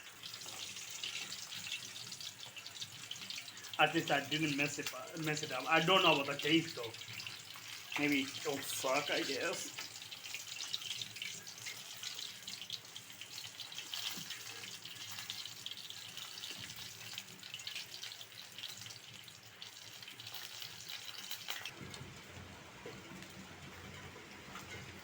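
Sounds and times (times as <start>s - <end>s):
chicken deep-frying in oil: 0.0s - 25.0s.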